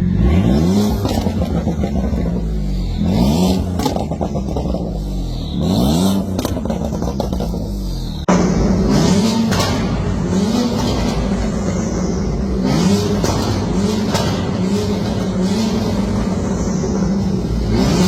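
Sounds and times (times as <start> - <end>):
car engine free-revving: 0.0 - 18.0
exhaust pops: 0.9 - 5.0, 6.2 - 17.5.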